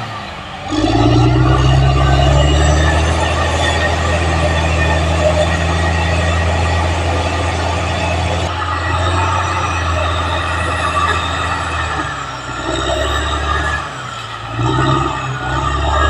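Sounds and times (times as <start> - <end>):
bulldozer diesel engine under load: 0.0 - 16.0.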